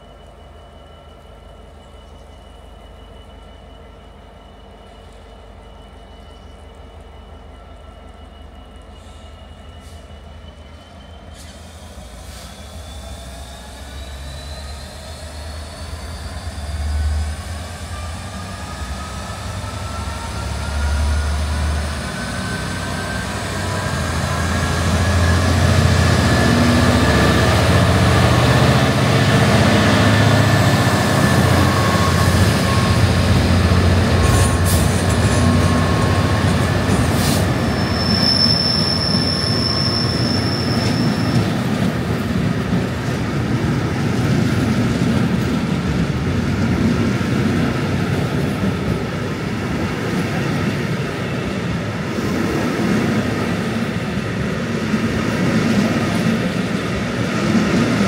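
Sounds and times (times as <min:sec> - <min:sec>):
steady high squeal: 0:00.0 - 0:57.2
diesel locomotive engine rumbling: 0:00.0 - 0:58.0
wheels squealing on rails: 0:00.0 - 0:58.0.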